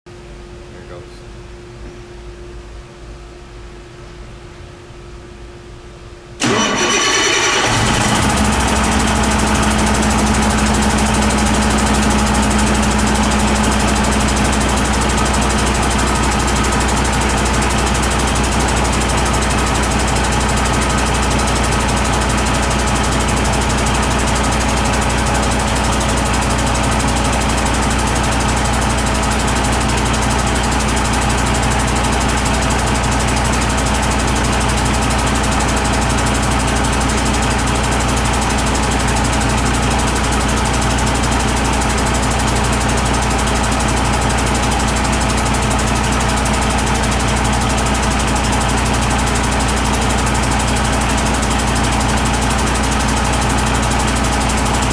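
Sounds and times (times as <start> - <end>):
diesel engine starting and idling: 6.4 - 54.9.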